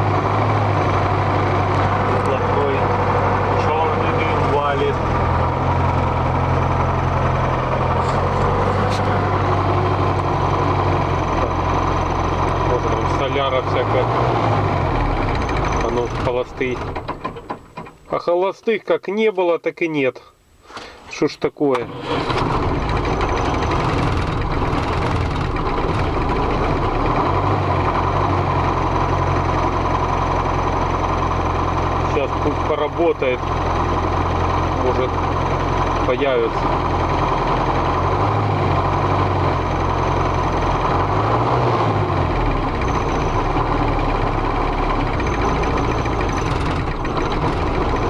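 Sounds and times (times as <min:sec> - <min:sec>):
diesel engine running and stalling: 0:00.0 - 0:18.2, 0:21.7 - 0:48.0.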